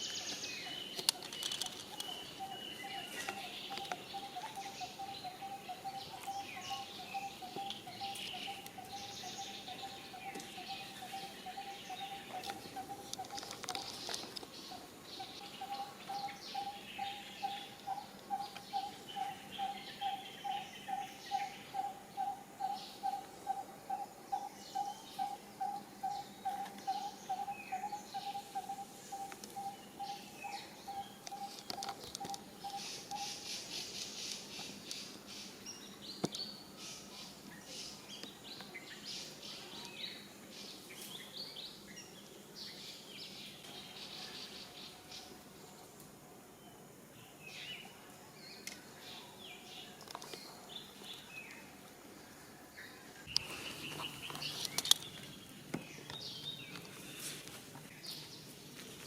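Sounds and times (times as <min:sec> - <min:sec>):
birds chirping and tweeting: 0:00.0 - 0:59.0.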